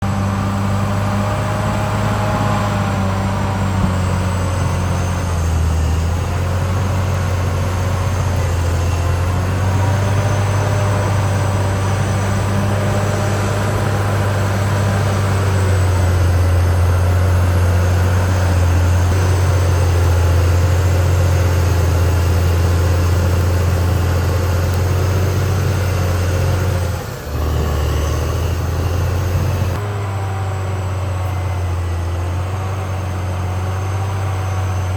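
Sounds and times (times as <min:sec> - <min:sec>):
bulldozer diesel engine running: 0:00.0 - 0:34.9
drivetrain and tracks whining: 0:00.0 - 0:34.9.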